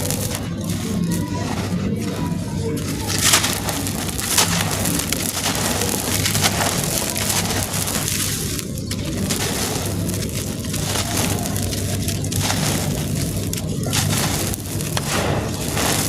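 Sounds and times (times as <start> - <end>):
stony chunks being crushed: 0.0 - 16.0.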